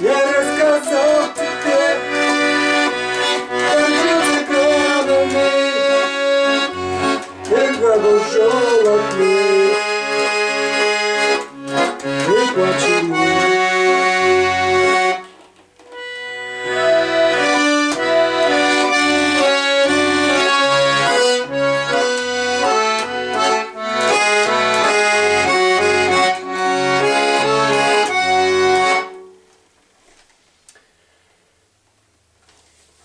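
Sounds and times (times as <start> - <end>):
accordion playing a melody: 0.0 - 29.6.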